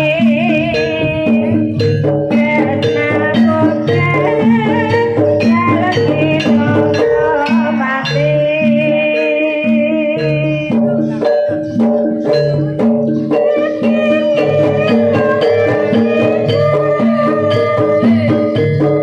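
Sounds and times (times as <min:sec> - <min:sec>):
repeated pitched notes: 0:00.0 - 0:19.0
sharp percussion strokes: 0:00.0 - 0:19.0
wavering held melody: 0:00.0 - 0:19.0.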